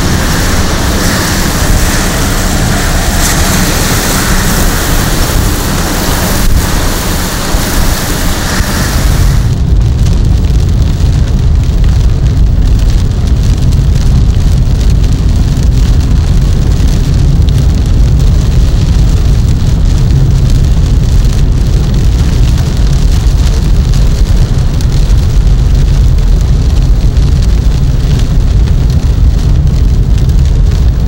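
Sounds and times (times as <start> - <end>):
hiss of rain: 0.0 - 31.0
wind buffeting a vehicle: 0.0 - 31.0.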